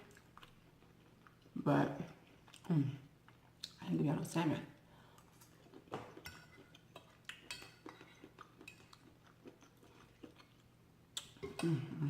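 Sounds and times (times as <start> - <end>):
soft chewing: 0.0 - 3.9, 4.7 - 12.0.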